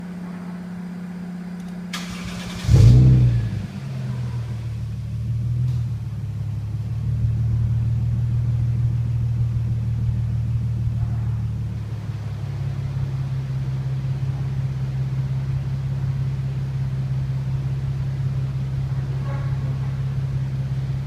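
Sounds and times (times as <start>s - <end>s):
car engine starting and idling: 1.5s - 21.0s.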